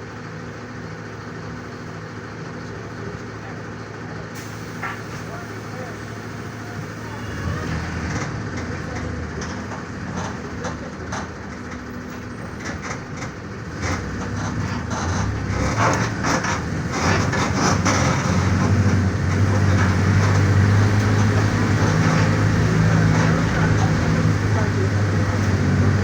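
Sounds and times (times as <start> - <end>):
bus diesel engine running: 0.0 - 26.0
bus body rattling: 0.2 - 26.0.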